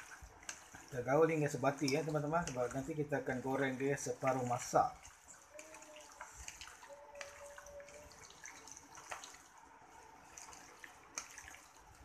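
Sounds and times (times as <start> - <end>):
wet squelching of kneaded chicken: 0.0 - 12.0.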